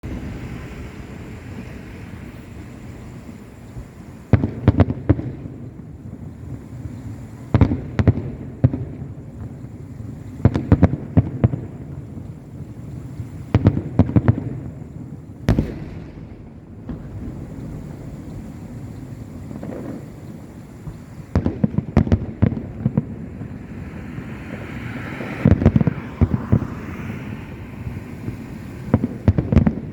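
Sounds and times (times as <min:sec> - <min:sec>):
fireworks bangs: 0:00.0 - 0:29.9.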